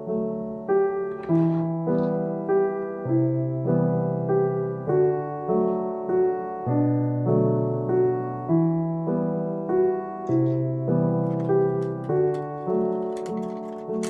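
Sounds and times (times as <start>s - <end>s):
gentle piano piece: 0.0s - 14.0s.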